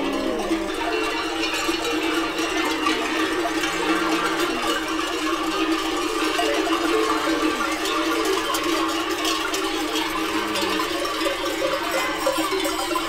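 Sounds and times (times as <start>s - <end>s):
cattle bells ringing: 0.0s - 13.0s.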